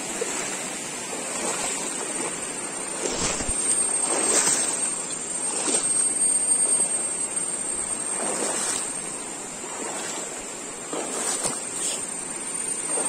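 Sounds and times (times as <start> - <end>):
river rushing with splashing surges: 0.0 - 6.6, 7.4 - 13.0.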